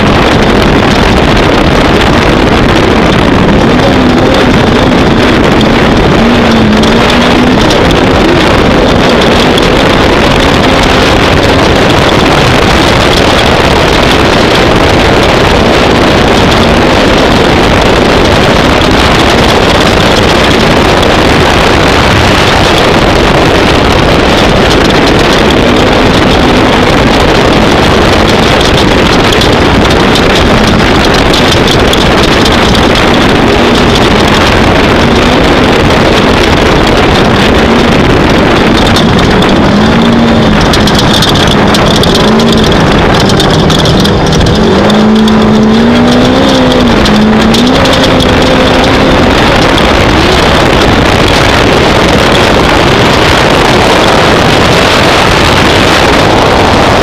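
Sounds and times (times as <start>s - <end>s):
loud rush of noise: 0.0s - 57.0s
race vehicle engine revving: 0.1s - 52.4s.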